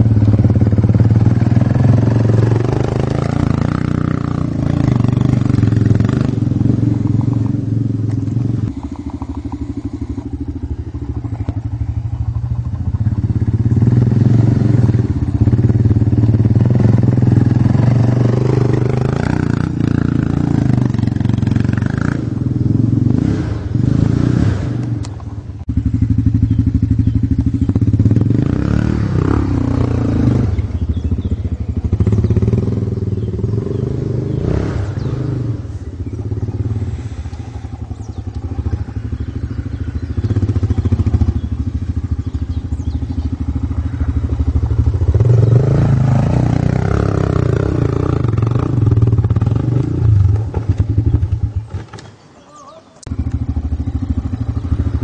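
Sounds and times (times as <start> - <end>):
dirt bike engine revving: 0.0 - 25.1, 25.7 - 52.0, 53.1 - 55.0.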